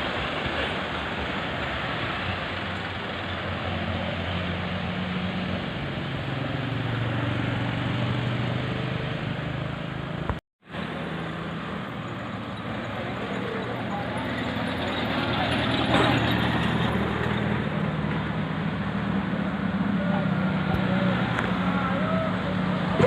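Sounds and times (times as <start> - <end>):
passing vehicle engine hum: 0.0 - 23.0
roadside traffic noise: 0.0 - 23.0.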